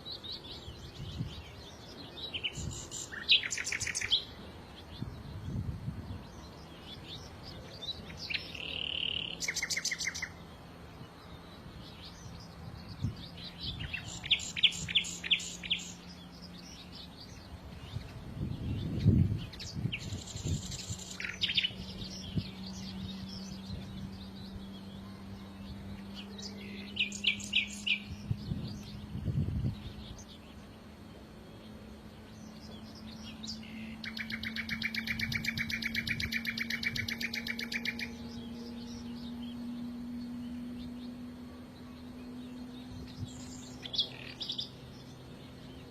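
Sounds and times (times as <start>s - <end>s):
faint low hum: 0.0s - 45.9s
songbirds chirping: 0.0s - 45.9s.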